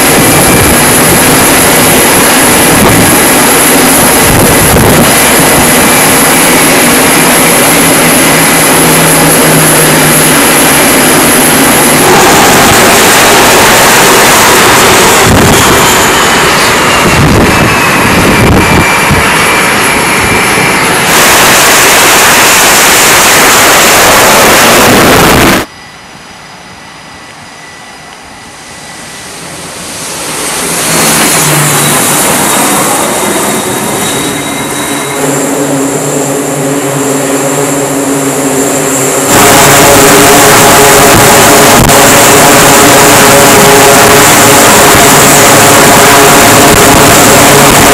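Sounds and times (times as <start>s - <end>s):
jet engine roaring: 0.0s - 25.7s, 29.3s - 47.9s
turboprop propeller drone: 0.0s - 25.7s, 29.2s - 47.9s.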